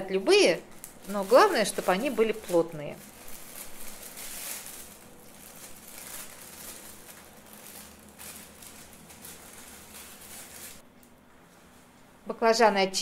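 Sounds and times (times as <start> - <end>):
plastic crackles: 0.2 - 11.2
plastic bags rustling and crinkling: 0.2 - 11.9.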